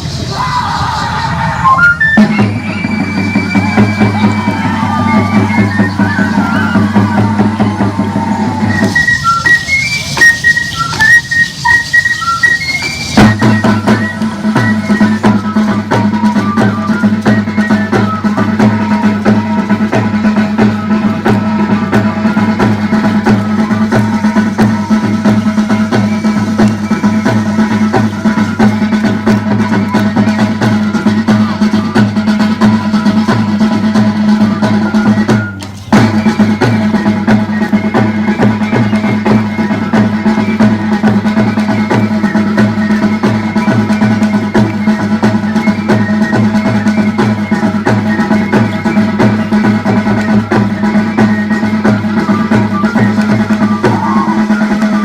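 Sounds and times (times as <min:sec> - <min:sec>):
high melody: 0:01.4 - 0:55.0
steady drum beat: 0:02.2 - 0:55.0.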